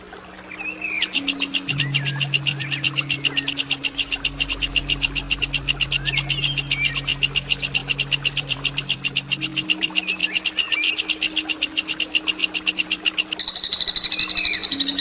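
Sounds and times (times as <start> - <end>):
songbird trilling: 0.9 - 15.0.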